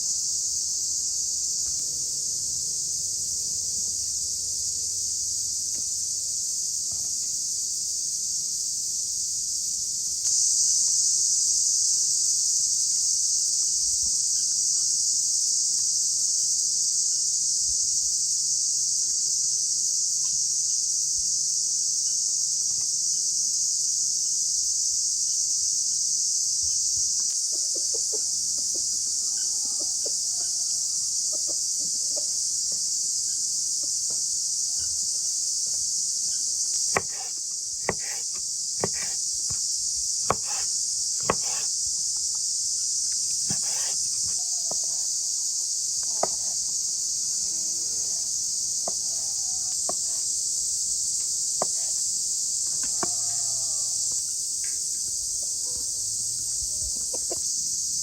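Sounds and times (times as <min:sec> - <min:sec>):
insect chorus chirring: 0:00.0 - 0:58.0.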